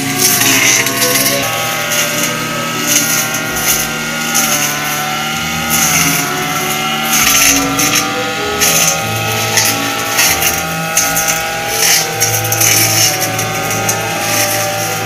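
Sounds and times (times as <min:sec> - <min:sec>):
brush cutter engine at high revs: 0:00.0 - 0:15.0.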